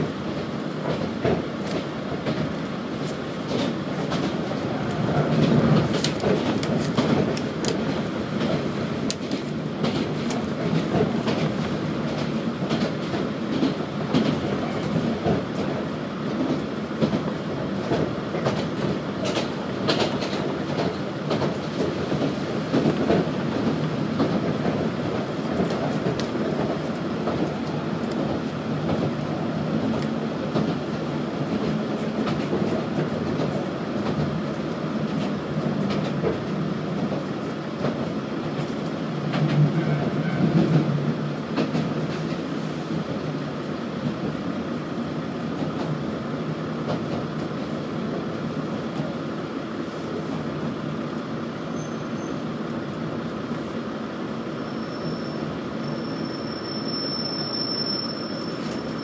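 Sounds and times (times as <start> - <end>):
railcar running drone: 0.0 - 59.0.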